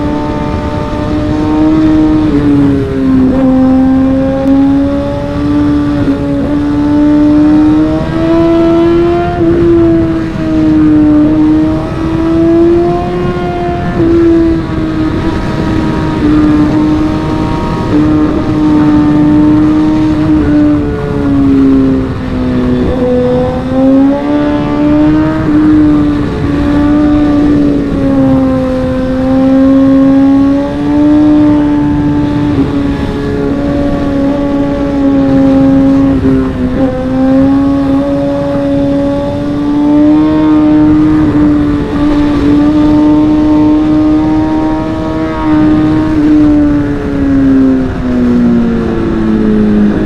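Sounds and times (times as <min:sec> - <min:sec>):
motorcycle engine at high revs: 0:00.0 - 0:50.0
wind noise: 0:00.0 - 0:50.0.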